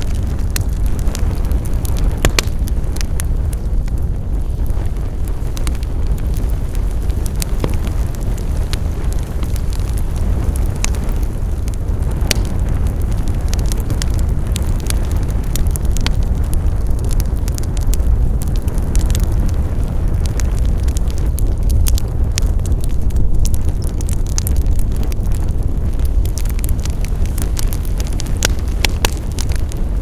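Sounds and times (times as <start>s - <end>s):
low rumble: 0.0s - 30.0s
wood fire crackling and popping: 0.0s - 30.0s.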